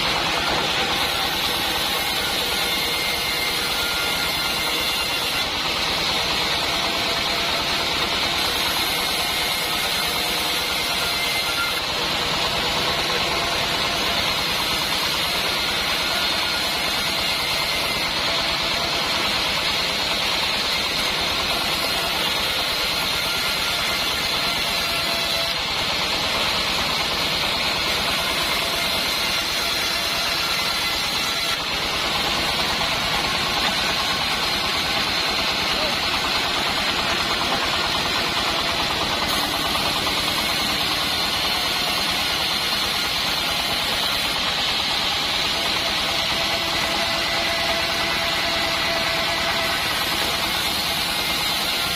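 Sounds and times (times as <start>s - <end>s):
band sawmill running: 0.0s - 51.9s.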